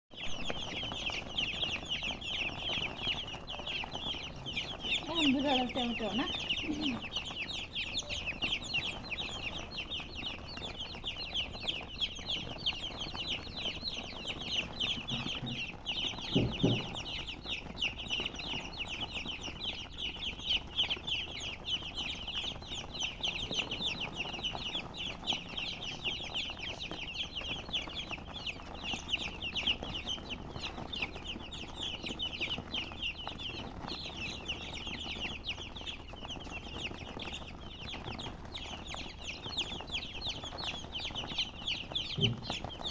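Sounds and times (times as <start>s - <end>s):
chicks peeping: 0.1s - 42.9s.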